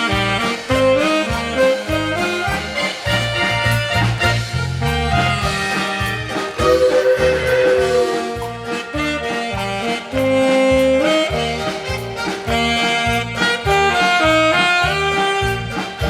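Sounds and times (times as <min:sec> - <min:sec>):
saxophone melody: 0:00.0 - 0:16.0
swing accompaniment with bass beat: 0:00.0 - 0:16.0.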